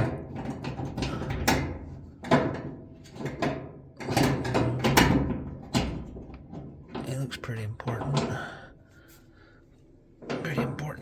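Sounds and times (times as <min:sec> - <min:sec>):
dryer parts clattering and scraping: 0:00.0 - 0:09.3, 0:10.1 - 0:11.0.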